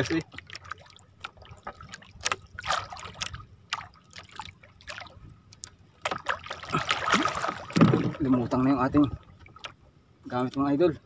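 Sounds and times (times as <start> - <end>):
paddle strokes splashing: 0.0 - 9.8
short splashes and knocks: 0.0 - 9.8.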